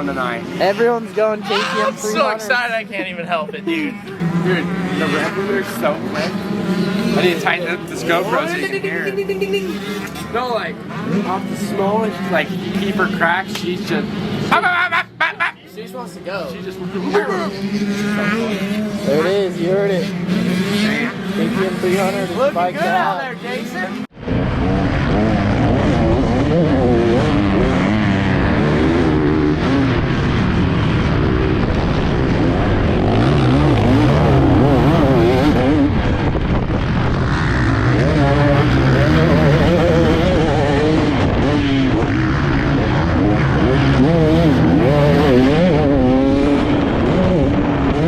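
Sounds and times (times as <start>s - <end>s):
dirt bike engine revving: 0.0s - 15.2s, 16.0s - 48.0s.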